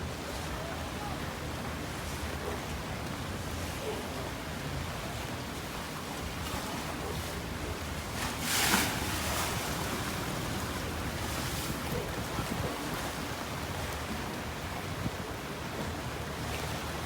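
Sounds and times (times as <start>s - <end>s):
choppy river water: 0.0s - 17.0s
wind rumble on microphone: 0.0s - 17.0s.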